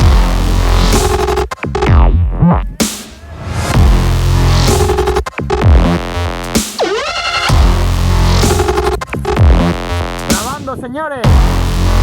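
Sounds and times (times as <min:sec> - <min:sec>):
wobbling bass line: 0:00.0 - 0:02.8, 0:03.7 - 0:12.0
dubstep music: 0:00.0 - 0:12.0.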